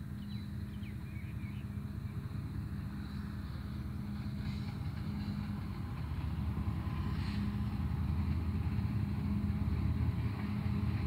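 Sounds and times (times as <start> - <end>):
locomotive engines droning: 0.0 - 11.0.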